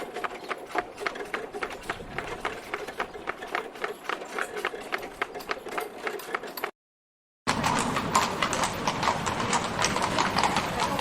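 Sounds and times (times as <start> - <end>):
horse hooves clip-clopping: 0.0 - 6.7, 7.5 - 11.0.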